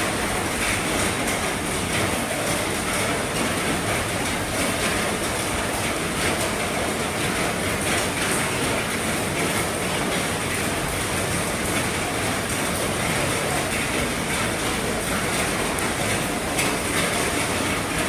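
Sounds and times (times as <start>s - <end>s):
heavy rain on a roof: 0.0s - 18.0s.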